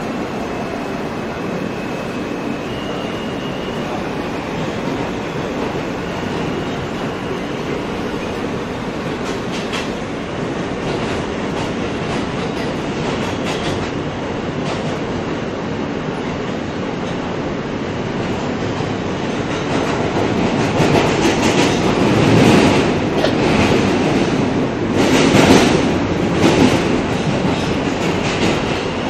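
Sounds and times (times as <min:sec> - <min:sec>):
subway car rumble: 0:00.0 - 0:29.0.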